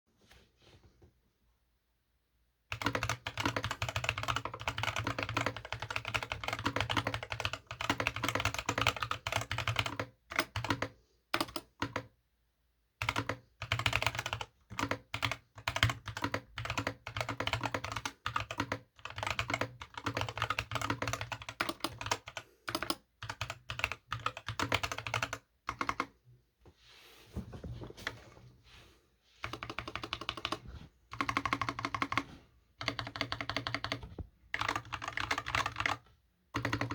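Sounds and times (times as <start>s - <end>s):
fast typing on mechanical keyboard: 2.7s - 12.1s, 13.0s - 26.1s, 29.4s - 36.9s.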